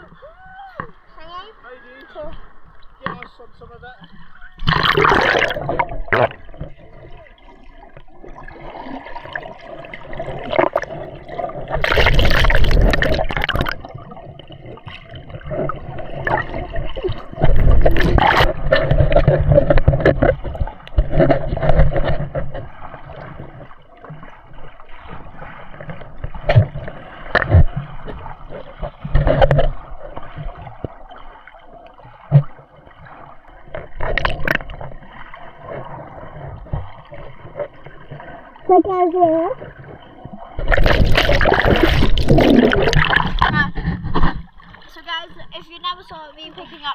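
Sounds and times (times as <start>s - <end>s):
muffled water gurgling and sloshing: 0.0s - 46.9s.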